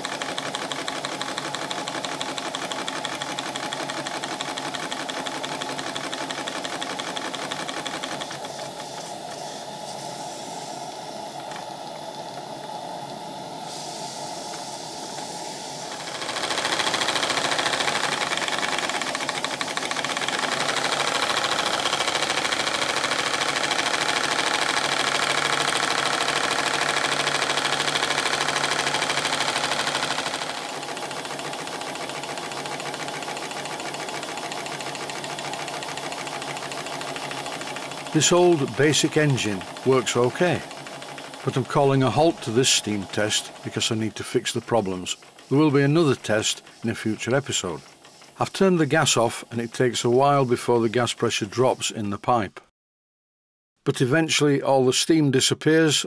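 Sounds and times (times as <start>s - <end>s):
model steam engine clatter: 0.0s - 10.5s, 14.4s - 51.9s
steam hissing: 0.0s - 52.0s.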